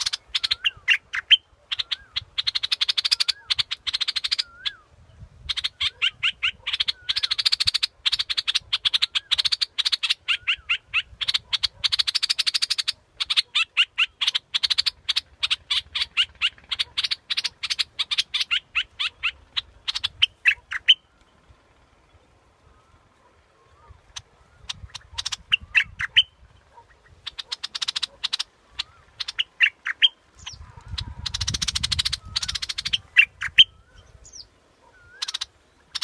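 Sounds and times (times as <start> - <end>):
bulbul chattering song: 0.0 - 22.2, 23.7 - 36.0.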